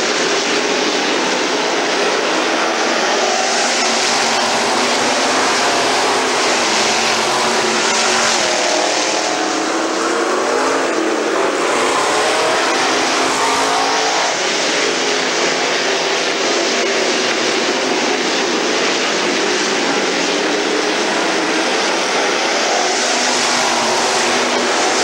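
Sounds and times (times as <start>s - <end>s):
race car engines roaring: 0.0s - 25.0s.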